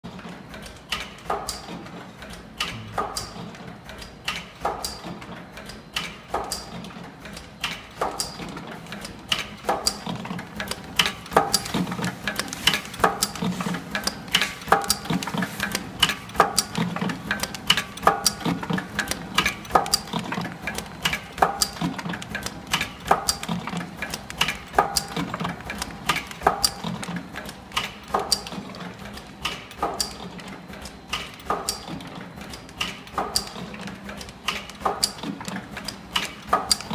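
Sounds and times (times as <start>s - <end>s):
packing machine hum: 0.1s - 36.9s
sharp mechanical clicks: 0.5s - 36.9s.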